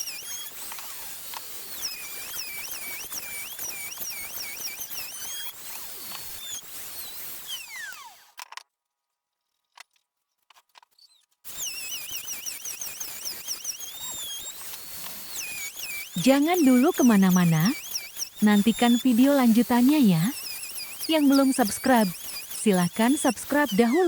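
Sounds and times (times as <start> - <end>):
electric router cutting wood: 0.0 - 8.3, 11.5 - 24.0.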